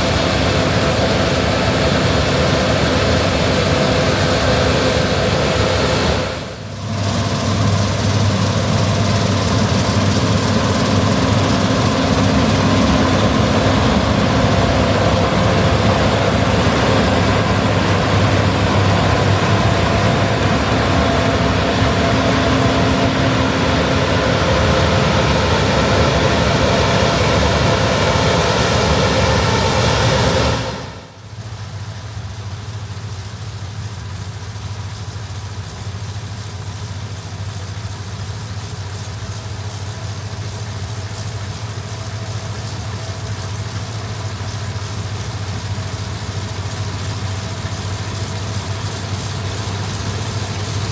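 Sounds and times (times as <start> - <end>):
combine harvester engine drone: 0.0 - 50.9.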